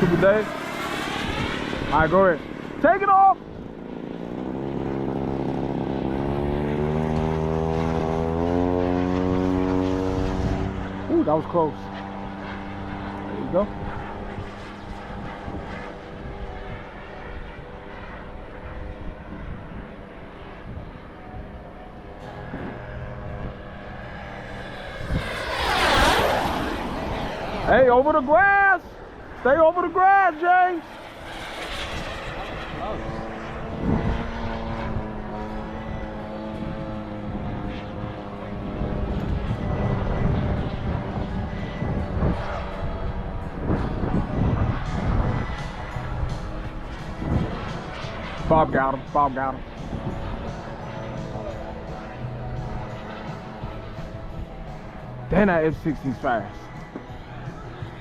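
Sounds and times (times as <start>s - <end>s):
model airplane engine droning: 0.0s - 58.0s.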